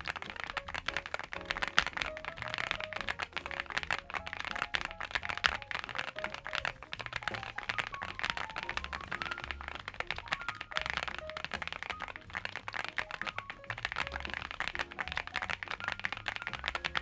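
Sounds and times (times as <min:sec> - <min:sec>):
mechanical keyboard typing: 0:00.0 - 0:17.0.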